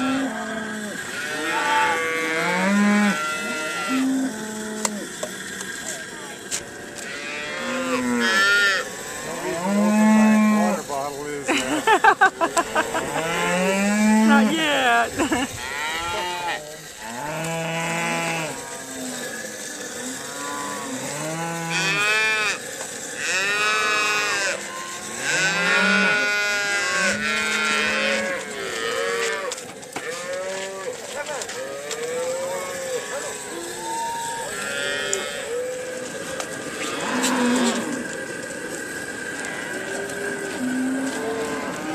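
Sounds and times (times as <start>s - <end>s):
calves bawling: 0.0s - 41.9s.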